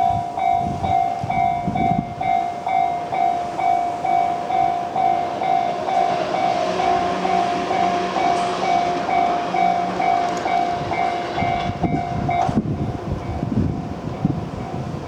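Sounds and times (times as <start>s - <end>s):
level crossing bell ringing: 0.0s - 12.6s
freight train clatter: 0.0s - 15.0s.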